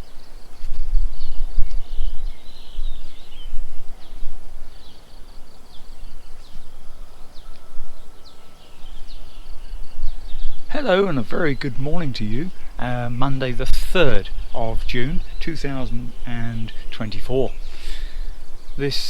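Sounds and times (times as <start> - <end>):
birds chirping: 0.0 - 19.0
wind rumble on microphone: 0.0 - 19.0.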